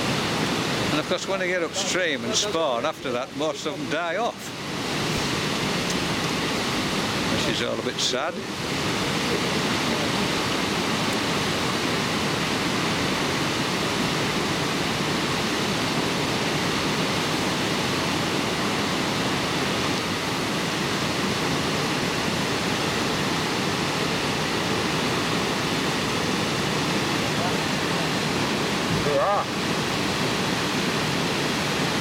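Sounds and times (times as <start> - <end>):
river water pouring over weir: 0.0 - 32.0.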